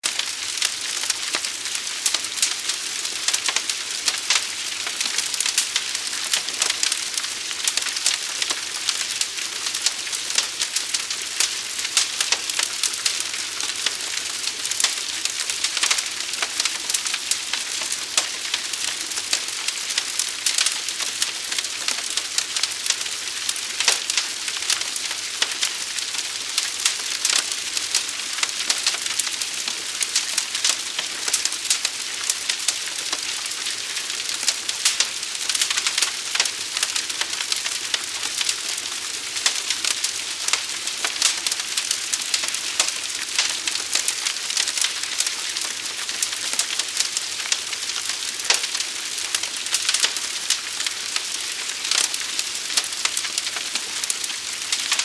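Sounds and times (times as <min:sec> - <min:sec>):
large fire crackling: 0:00.0 - 0:55.0.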